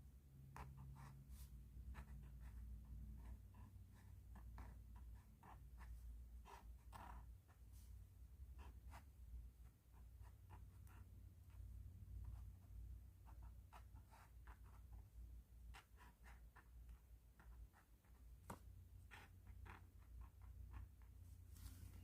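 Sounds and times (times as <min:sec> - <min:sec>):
pen scratching on paper: 0:00.6 - 0:21.1.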